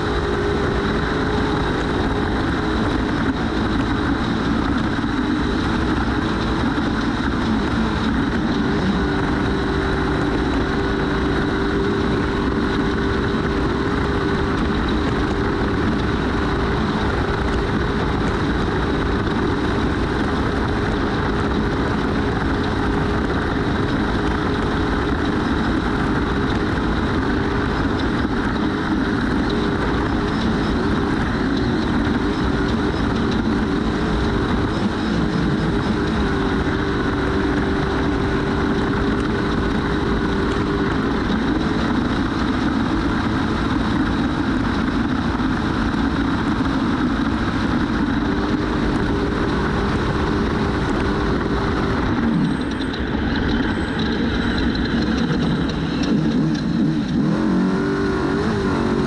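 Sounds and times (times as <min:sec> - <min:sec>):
truck engine running hard: 0:00.0 - 0:59.0
truck rumbling and rattling: 0:00.0 - 0:59.0.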